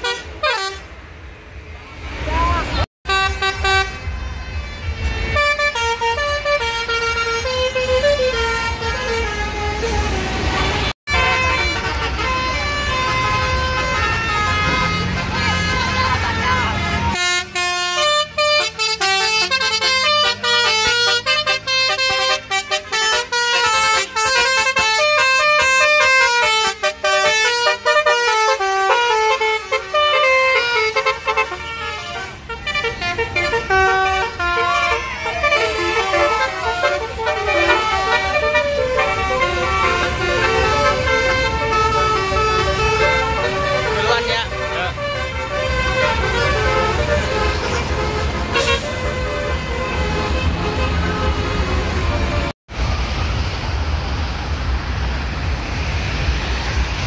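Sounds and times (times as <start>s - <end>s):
multi-tone air horn playing tune: 0.0s - 0.9s, 3.1s - 52.6s
vehicle engine rumbling: 0.0s - 57.0s.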